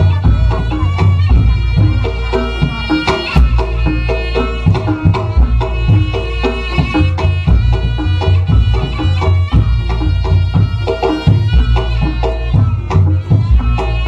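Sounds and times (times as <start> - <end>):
drums beating busy rhythm: 0.0 - 14.0
reedy wind instrument melody: 0.0 - 14.0.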